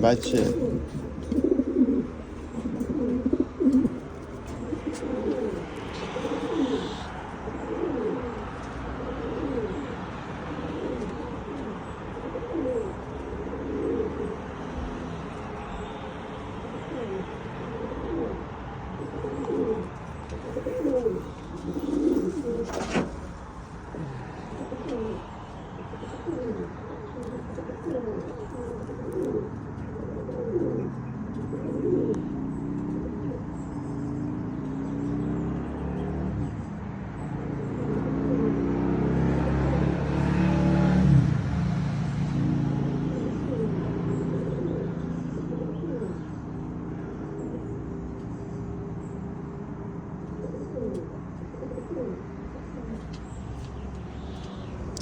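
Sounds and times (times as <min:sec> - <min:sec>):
pigeons cooing: 0:00.0 - 0:15.6, 0:16.6 - 0:41.2, 0:42.7 - 0:55.0.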